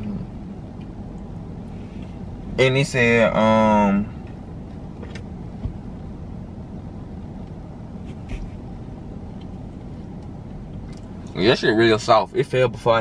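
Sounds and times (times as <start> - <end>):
low hum inside car: 0.0 - 13.0.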